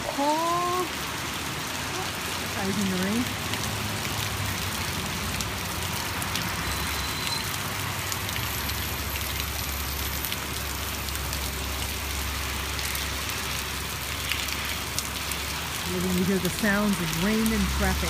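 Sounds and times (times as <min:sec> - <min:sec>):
hard rain falling: 0:00.0 - 0:18.0
road traffic rumble: 0:00.0 - 0:18.0.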